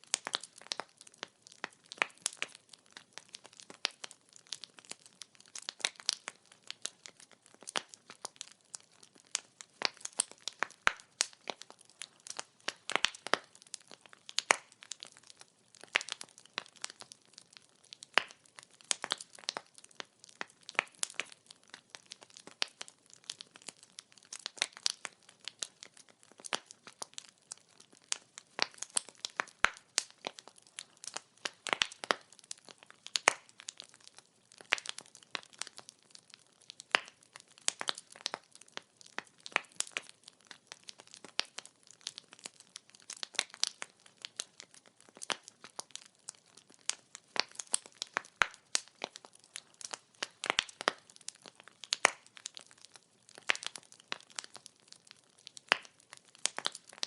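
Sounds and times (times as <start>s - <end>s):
firewood crackling and popping: 0.0s - 57.0s.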